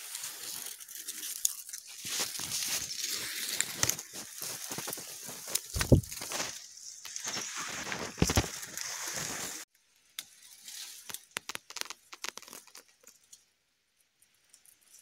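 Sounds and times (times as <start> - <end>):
dry leaves rustling and crackling: 0.0 - 13.4.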